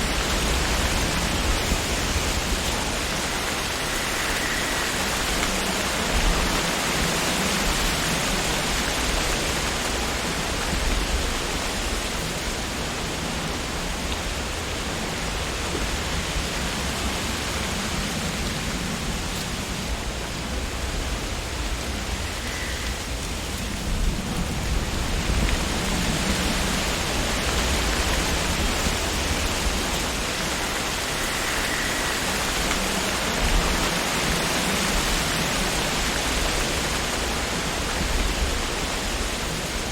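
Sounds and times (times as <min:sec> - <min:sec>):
low wind rumble: 0:00.0 - 0:39.9
wind rustling tree leaves: 0:00.0 - 0:39.9.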